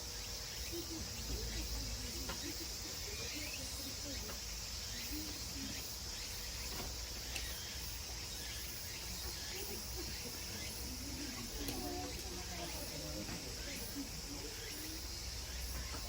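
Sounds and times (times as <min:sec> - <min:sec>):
insects droning: 0:00.0 - 0:16.0
murmuring voices: 0:00.6 - 0:07.2, 0:09.1 - 0:16.0.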